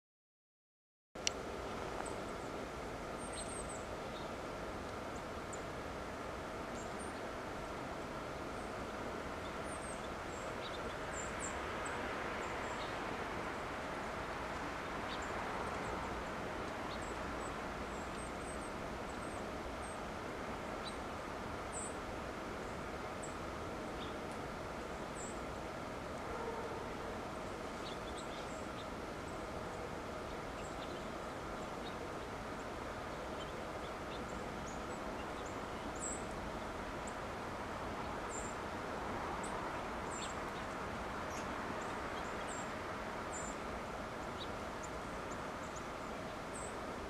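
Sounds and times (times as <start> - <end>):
faint steady hum: 1.2 - 47.0
small birds chirping: 2.0 - 5.8, 6.6 - 38.8, 39.4 - 47.0.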